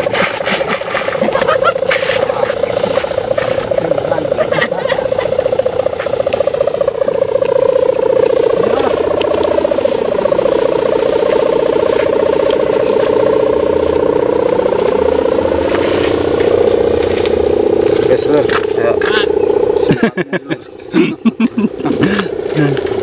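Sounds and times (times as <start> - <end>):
kite hummer buzzing drone: 0.0 - 23.0.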